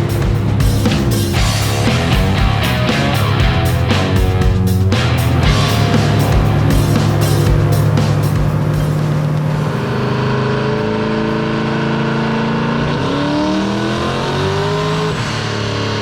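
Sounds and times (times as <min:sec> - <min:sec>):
engine revving at full throttle: 0:00.0 - 0:16.0.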